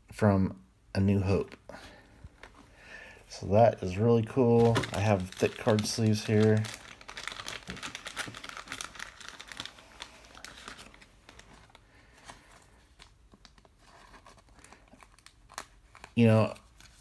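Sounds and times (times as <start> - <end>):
plastic sleeve crinkling: 1.4 - 17.0.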